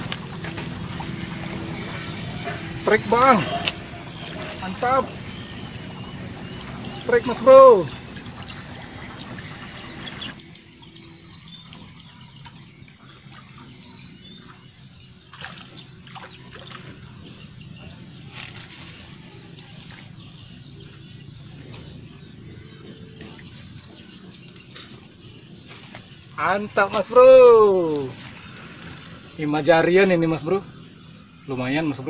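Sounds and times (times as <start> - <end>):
water sloshing and splashing: 0.0 - 32.0.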